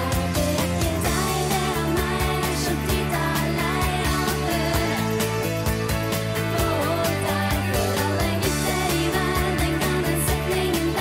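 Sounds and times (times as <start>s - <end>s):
backing track with beat and bass: 0.0s - 11.0s
girls singing pop song: 0.0s - 11.0s.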